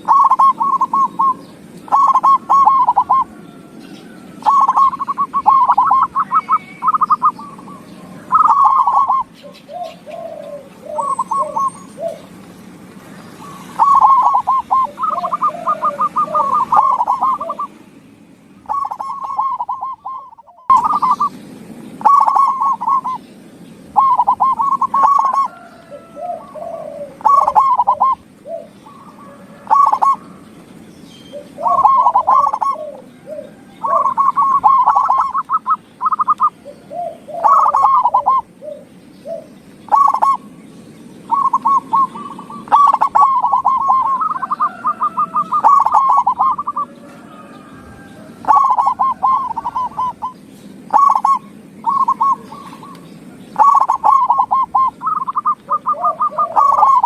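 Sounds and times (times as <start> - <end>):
dove cooing: 0.0 - 17.8, 18.6 - 40.6, 41.2 - 57.0.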